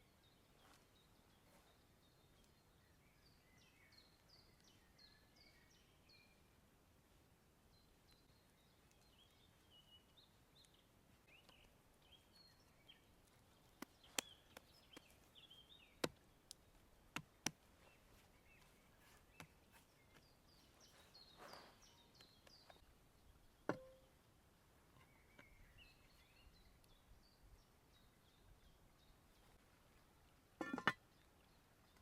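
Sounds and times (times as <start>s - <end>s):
small birds chirping faintly: 0.0s - 32.0s.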